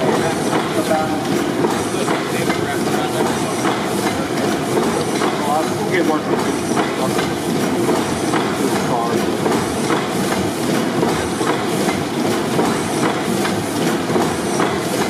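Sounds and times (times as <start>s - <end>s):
gas engine clattering: 0.0s - 15.0s.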